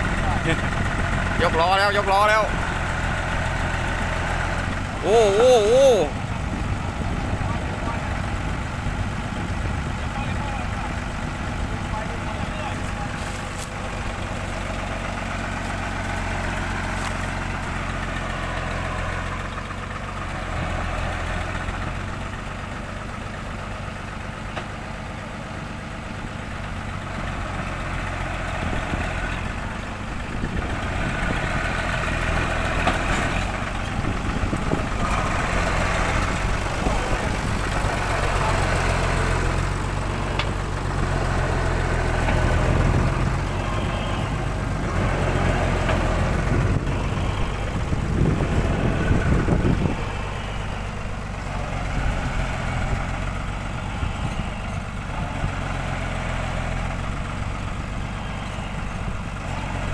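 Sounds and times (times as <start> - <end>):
winch rig engine running: 0.0 - 59.9.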